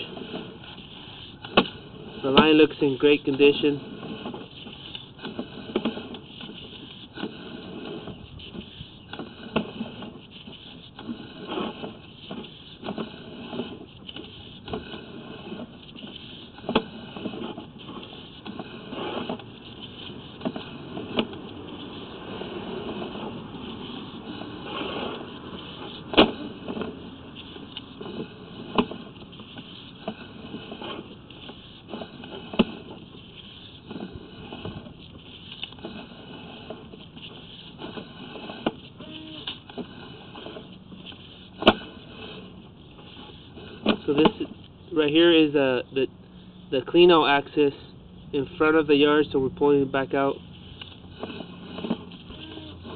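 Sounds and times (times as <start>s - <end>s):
cable scraping rustle: 0.0s - 52.9s.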